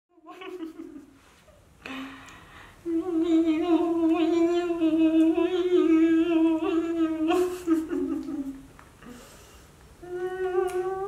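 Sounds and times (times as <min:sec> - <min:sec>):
person humming: 0:00.1 - 0:01.2, 0:01.8 - 0:09.3, 0:10.0 - 0:11.0.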